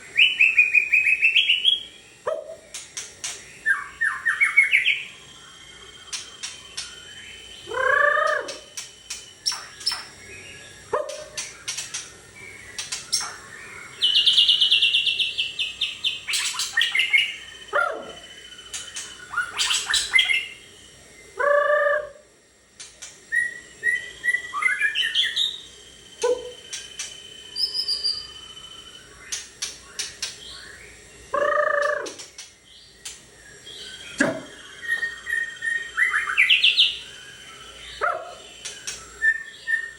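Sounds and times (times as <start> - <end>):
songbird singing trills and whistles: 0.0 - 22.1, 23.3 - 39.9.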